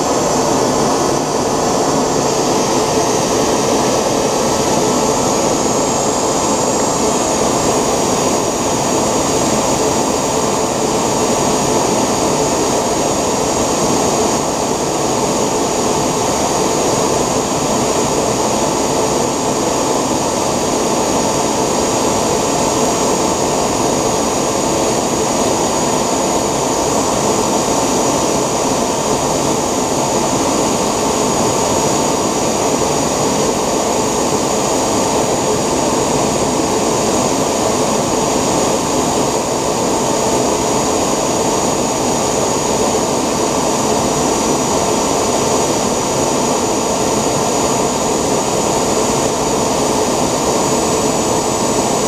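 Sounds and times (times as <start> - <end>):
jet engine whine and rush: 0.0 - 52.0.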